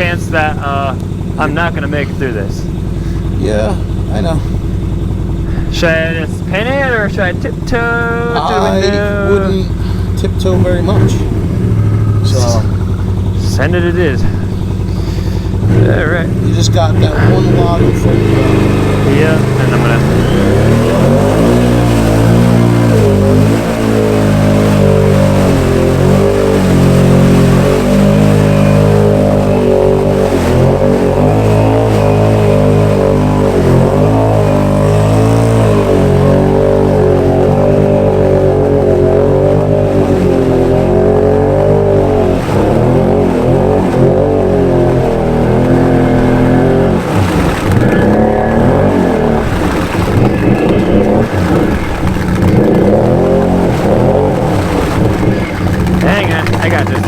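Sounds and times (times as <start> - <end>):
atv engine revving in mud: 0.0 - 57.0.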